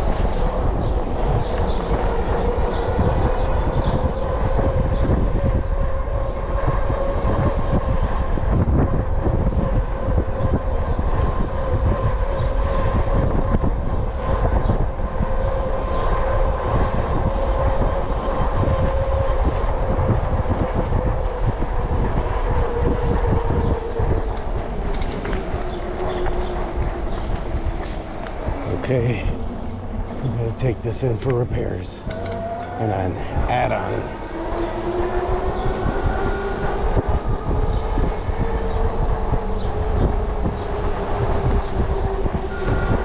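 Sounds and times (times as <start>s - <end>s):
road noise rumbling: 0.0s - 43.0s
wind buffeting microphone: 0.0s - 43.0s.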